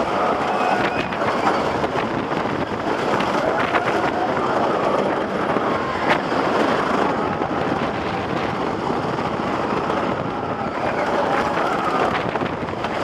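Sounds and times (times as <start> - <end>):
roller coaster clattering rumble: 0.0 - 13.0
wind on microphone: 0.0 - 13.0.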